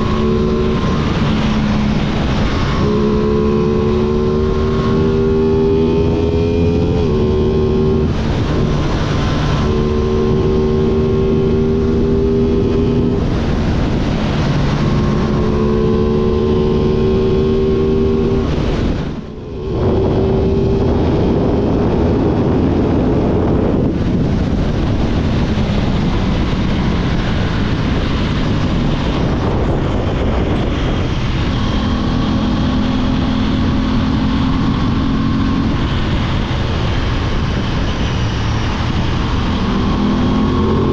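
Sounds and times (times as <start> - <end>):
motorcycle engine running: 0.0 - 40.9
rushing noise: 0.0 - 40.9.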